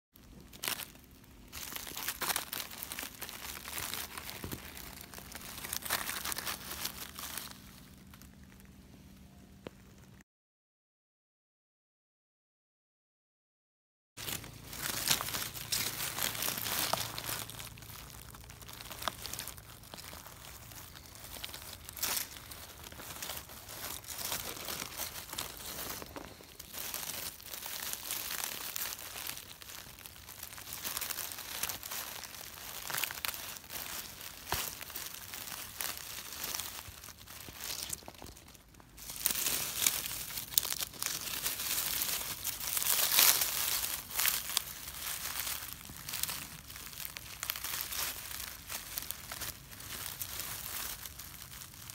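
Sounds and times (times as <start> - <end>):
dry leaves rustling and crackling: 0.2 - 8.8, 14.2 - 51.9.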